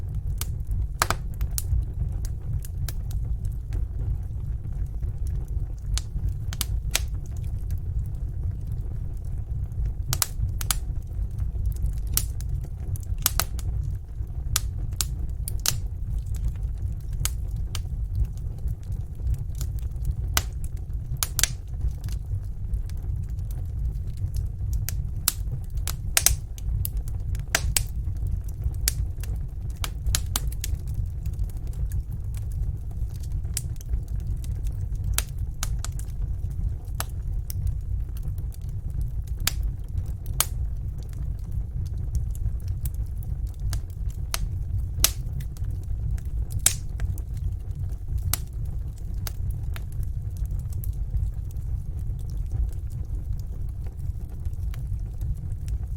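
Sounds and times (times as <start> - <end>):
fire crackling and popping: 0.0 - 55.9.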